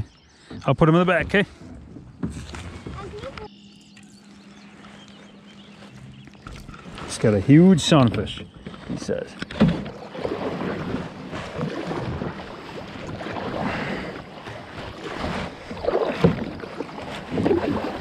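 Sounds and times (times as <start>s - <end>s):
paddle splashing in water: 0.0s - 3.5s, 6.4s - 18.0s.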